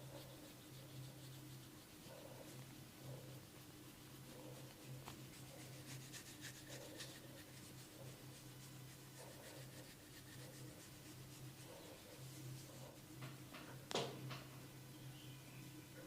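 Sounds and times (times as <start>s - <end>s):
massage scratching on skin and hair: 0.0s - 13.2s
low steady hum: 0.0s - 16.0s.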